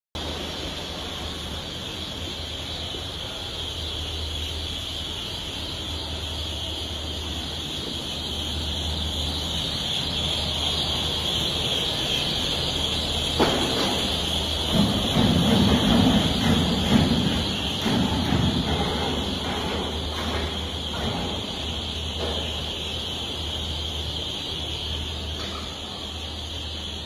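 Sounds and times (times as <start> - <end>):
factory machine drone: 0.2 - 27.0.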